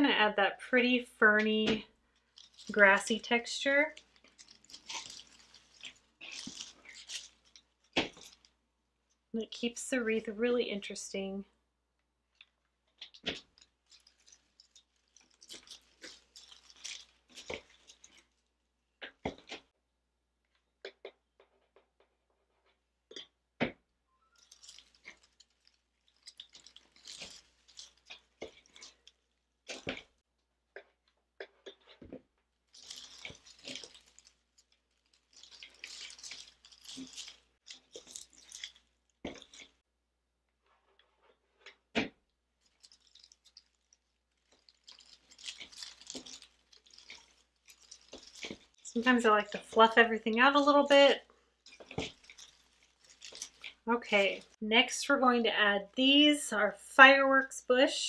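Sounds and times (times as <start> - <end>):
artificial stems rustling and crackling: 0.0 - 19.8, 20.4 - 58.0.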